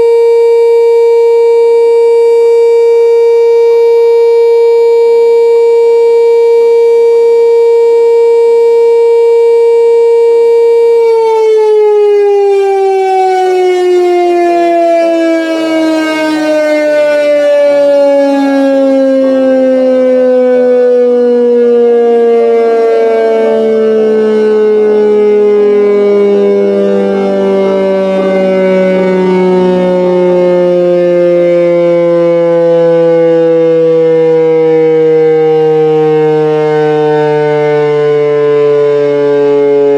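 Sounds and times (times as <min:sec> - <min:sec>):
electric motor siren: 0:00.0 - 0:39.9.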